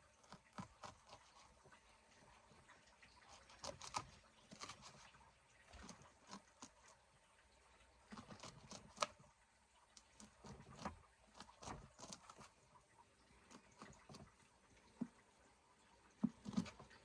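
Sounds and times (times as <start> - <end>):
faint small clicks and crackles: 0.0 - 17.0.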